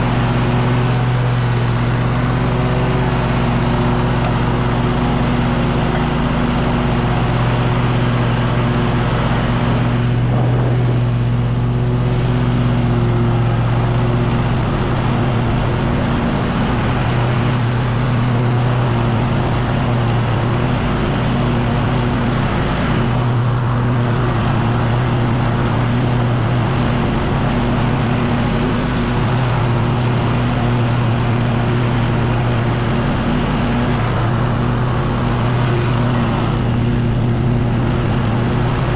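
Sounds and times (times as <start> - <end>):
leaf blower engine running: 0.0 - 38.9.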